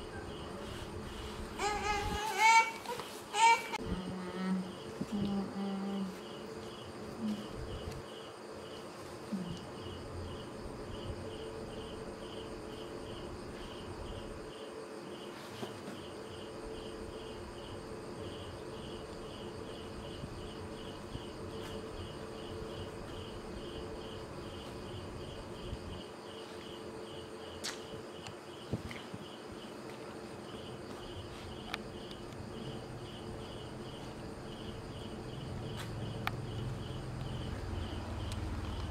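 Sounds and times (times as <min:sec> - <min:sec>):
cricket chirping: 0:00.0 - 0:38.9
steady low hum: 0:00.0 - 0:38.9.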